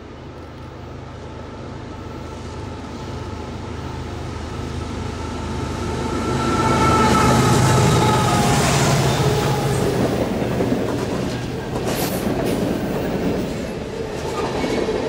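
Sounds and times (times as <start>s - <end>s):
rail noise: 0.0s - 15.0s
train engine drone: 0.0s - 15.0s.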